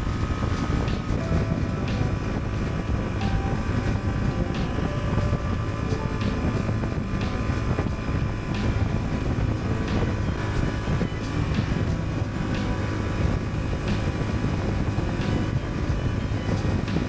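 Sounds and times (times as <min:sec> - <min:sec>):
motorcycle engine rumble: 0:00.0 - 0:17.0
wind rushing over microphone: 0:00.0 - 0:17.0.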